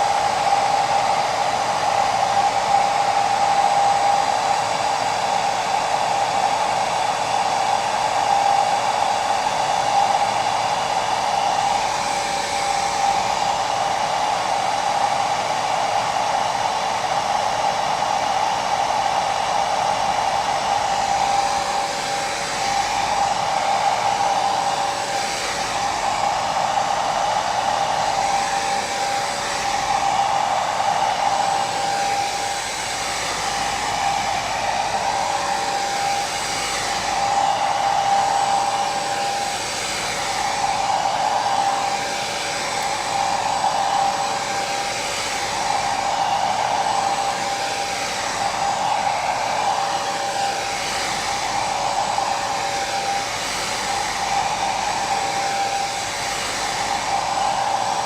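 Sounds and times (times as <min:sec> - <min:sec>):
hair dryer whirring: 0:00.0 - 0:58.0.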